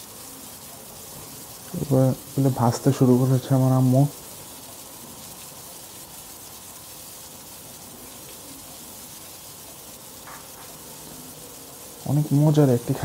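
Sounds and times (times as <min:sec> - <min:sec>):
prawns sizzling in oil: 0:00.0 - 0:13.0.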